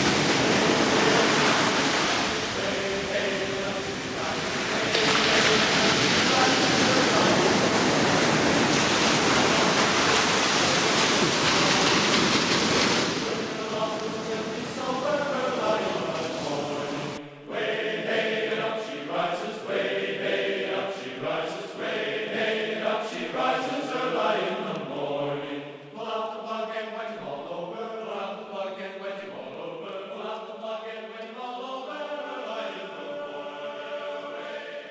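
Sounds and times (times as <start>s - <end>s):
choir singing a chant: 0.0s - 34.9s.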